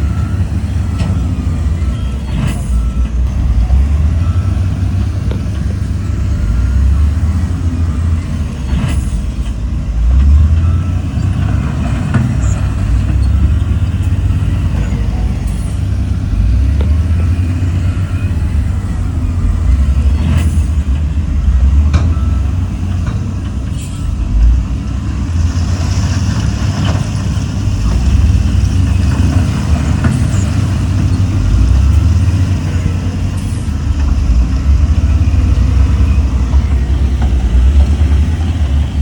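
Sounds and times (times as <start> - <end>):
heavy diesel machinery rumbling: 0.0 - 39.0.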